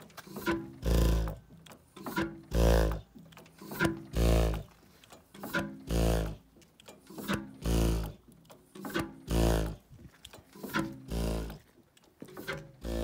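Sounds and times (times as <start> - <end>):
engine heavy exhaust beats: 0.0 - 13.0.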